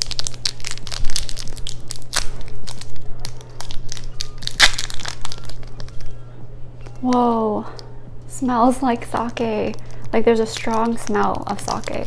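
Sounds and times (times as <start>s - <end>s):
wrapper crinkling and tearing: 0.0s - 7.9s, 8.7s - 12.0s.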